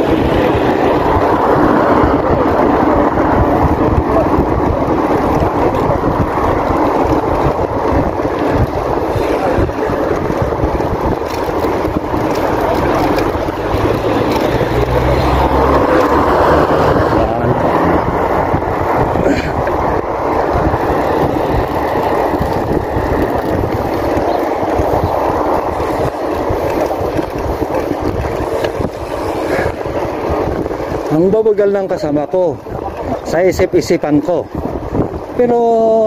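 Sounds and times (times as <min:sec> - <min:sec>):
rolling road noise: 0:00.0 - 0:36.0
wind buffeting microphone: 0:00.0 - 0:36.0.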